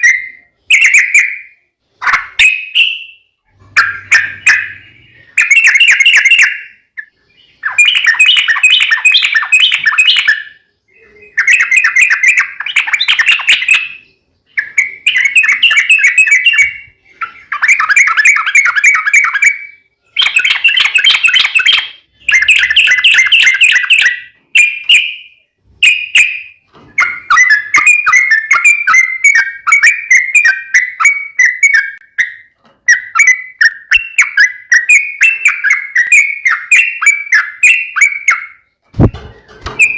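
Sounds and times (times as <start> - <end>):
bird song with fast trills: 0.0 - 39.9.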